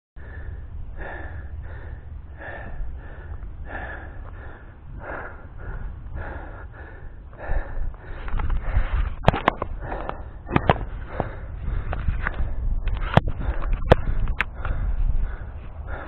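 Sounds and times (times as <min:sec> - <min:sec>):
person breathing hard: 0:00.2 - 0:16.0
wind rumbling on microphone: 0:00.2 - 0:16.0.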